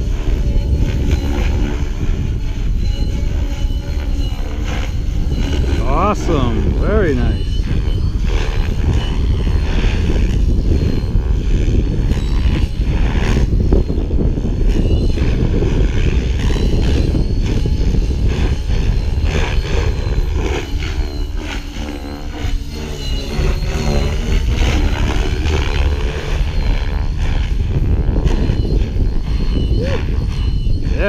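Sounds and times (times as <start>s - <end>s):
rc helicopter rotor and motor: 0.0s - 31.0s.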